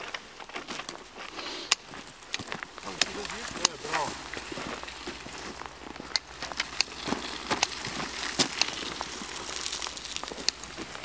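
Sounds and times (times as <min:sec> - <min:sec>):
brushwood dragged over gravel: 0:00.0 - 0:11.0
twigs cracking sharply: 0:01.6 - 0:11.0.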